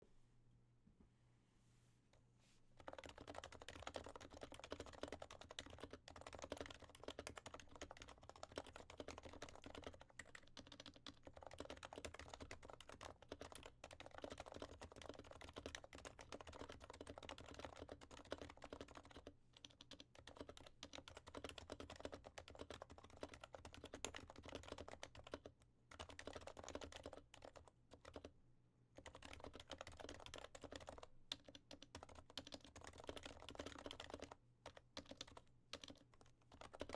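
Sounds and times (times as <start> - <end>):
muted keyboard typing: 2.8 - 28.3, 29.0 - 36.9.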